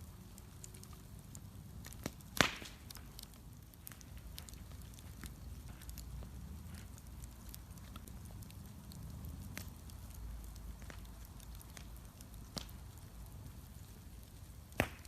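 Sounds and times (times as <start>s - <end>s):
wood bonfire crackling: 0.0s - 15.0s
sharp pops and snaps: 0.6s - 13.4s, 14.6s - 15.0s.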